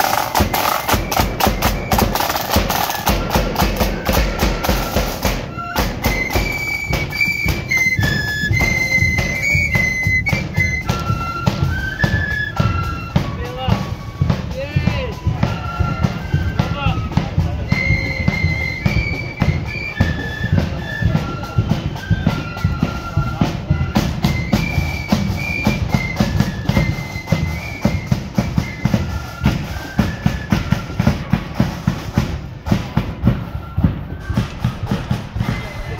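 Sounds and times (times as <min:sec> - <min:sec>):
drum beat: 0:00.0 - 0:35.9
flute band tune: 0:00.0 - 0:35.9.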